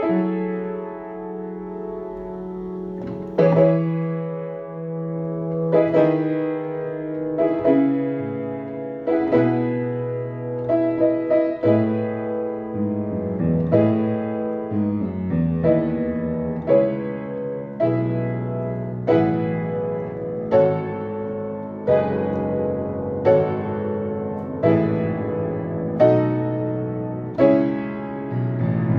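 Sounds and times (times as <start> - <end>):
piano playing slow chords: 0.0 - 28.9.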